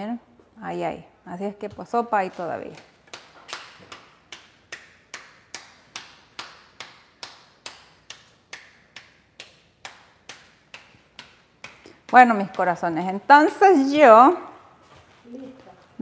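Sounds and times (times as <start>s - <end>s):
hands patting dough: 1.6s - 14.5s.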